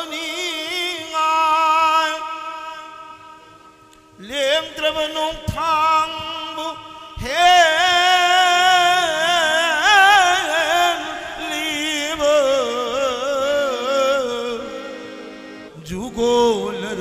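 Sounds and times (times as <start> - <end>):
man singing: 0.0 - 3.5, 4.2 - 17.0.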